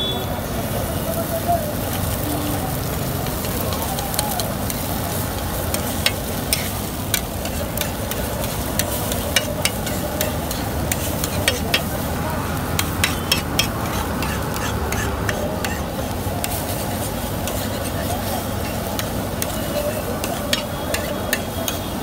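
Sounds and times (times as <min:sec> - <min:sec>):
frying sizzle: 0:00.0 - 0:22.0
metal spatula clacking on griddle: 0:03.3 - 0:22.0.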